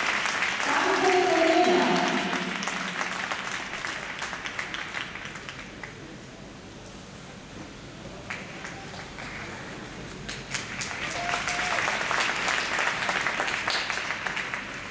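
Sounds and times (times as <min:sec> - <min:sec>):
audience applauding: 0:00.0 - 0:06.0, 0:08.3 - 0:14.9.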